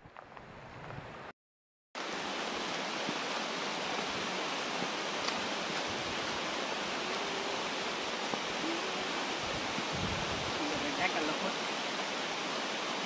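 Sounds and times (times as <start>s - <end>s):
heavy rain falling: 2.0s - 13.0s.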